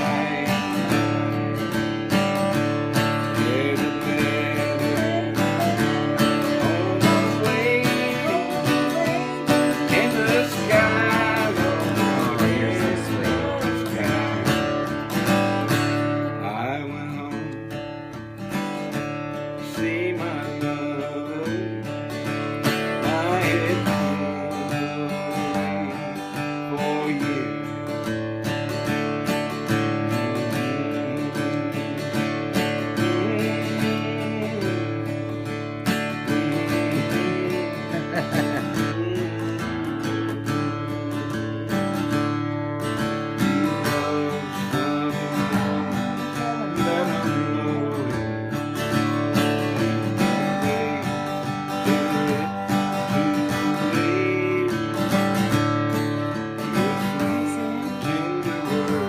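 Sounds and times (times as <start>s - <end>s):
acoustic guitar: 0.0s - 59.0s.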